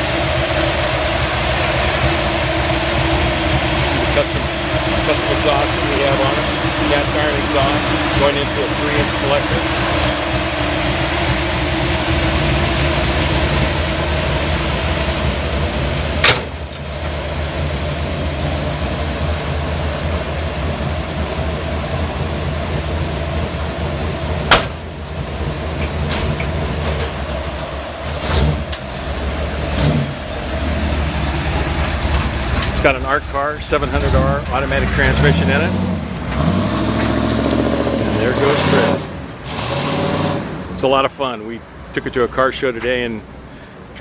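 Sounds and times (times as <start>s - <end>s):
car engine idling: 0.0s - 39.5s.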